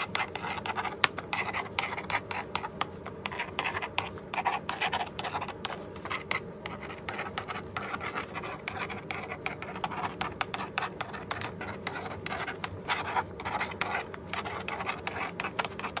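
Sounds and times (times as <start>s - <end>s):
stylus scratching on plastic board: 0.0s - 16.0s.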